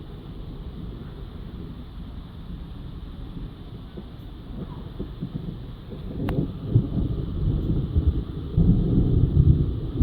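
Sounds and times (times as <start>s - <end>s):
thunder rumbling: 0.0s - 10.0s.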